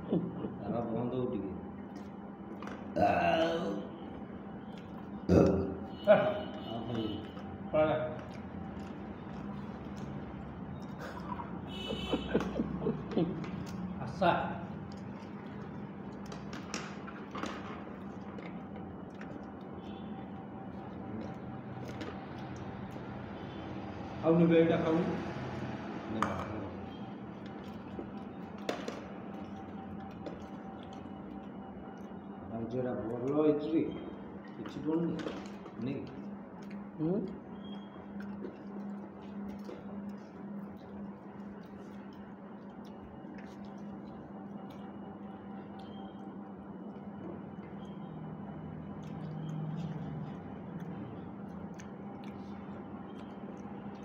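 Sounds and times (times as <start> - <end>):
steady low hum: 0.0 - 54.0
chewing: 1.8 - 54.0
rice squishing being mixed: 5.9 - 54.0.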